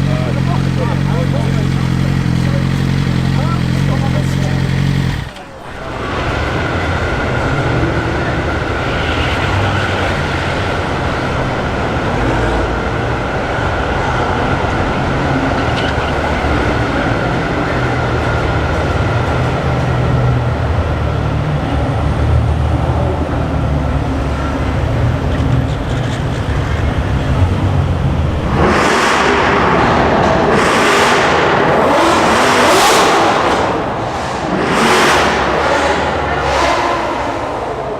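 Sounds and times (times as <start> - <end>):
car engines idling: 0.0 - 37.9.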